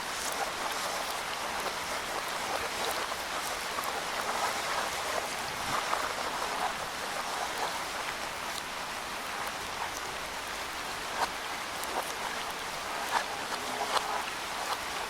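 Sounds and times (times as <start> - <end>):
rain pattering in a wood: 0.0 - 15.0.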